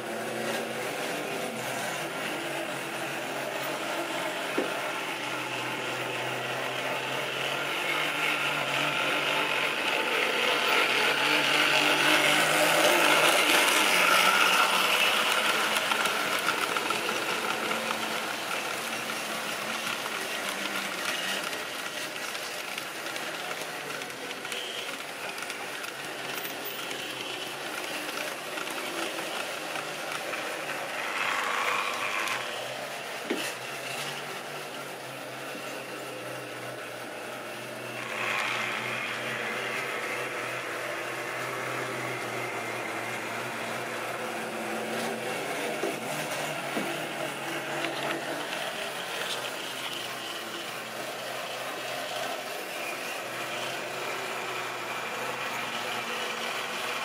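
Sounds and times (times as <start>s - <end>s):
model train motor humming: 0.0s - 57.0s.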